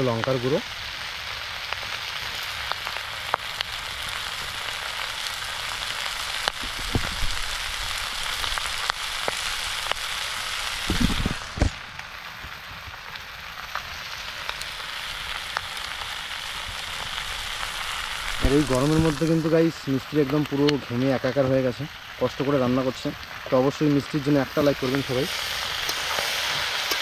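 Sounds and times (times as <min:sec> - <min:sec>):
curry sizzling in oil: 0:00.0 - 0:27.0.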